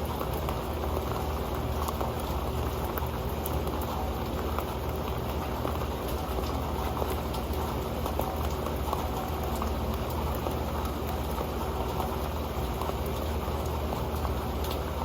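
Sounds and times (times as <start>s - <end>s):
rain on metal pan: 0.0s - 15.0s.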